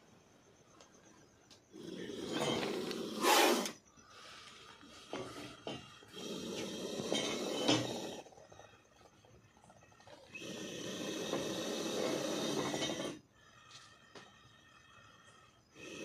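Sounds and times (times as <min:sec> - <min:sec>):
snake hissing: 0:01.7 - 0:16.0.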